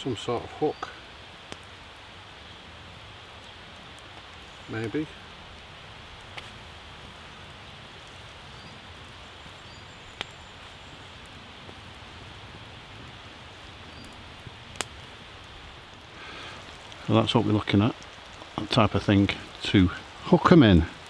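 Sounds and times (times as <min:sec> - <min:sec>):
campfire hissing: 0:00.0 - 0:21.0
fire popping: 0:00.0 - 0:21.0.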